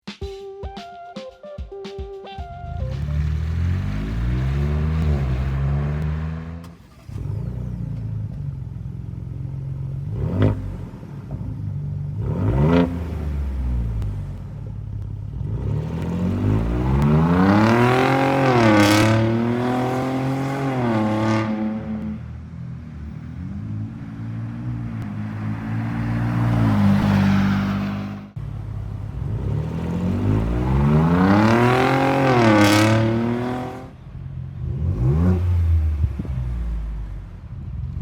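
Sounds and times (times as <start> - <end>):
car engine idling and revving: 2.7 - 38.0.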